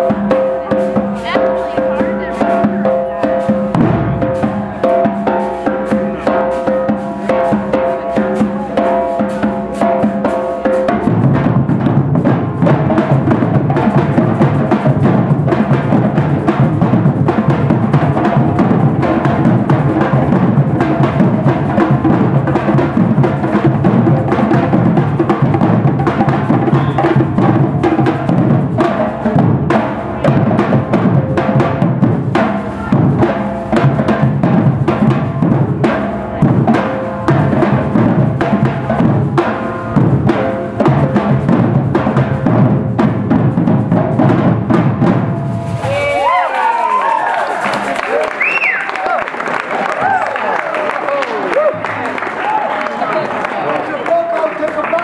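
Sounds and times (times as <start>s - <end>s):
percussion band drumming: 0.0s - 55.0s.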